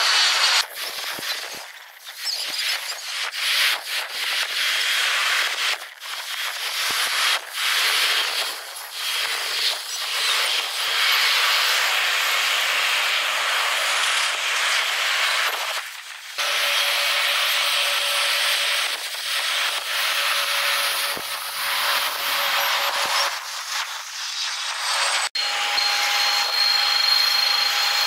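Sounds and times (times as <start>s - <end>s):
sped-up jet engine hiss: 0.0s - 25.3s.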